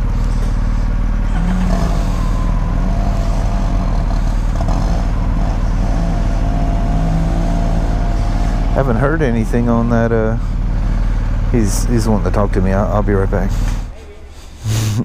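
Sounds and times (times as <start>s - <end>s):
motorcycle engine idling: 0.0s - 14.3s
thin steady whine: 0.0s - 15.0s.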